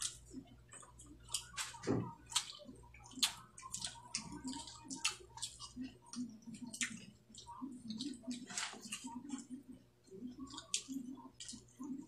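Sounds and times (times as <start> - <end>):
wet chewing and lip-smacking: 0.0 - 9.5, 10.2 - 12.0.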